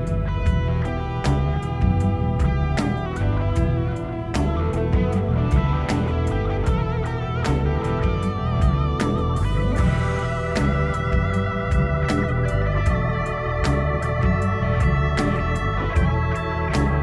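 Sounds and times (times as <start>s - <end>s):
guitar and bass: 0.0s - 17.0s
organ-like keyboard chords: 0.0s - 17.0s
drum and cymbal hits: 0.4s - 17.0s.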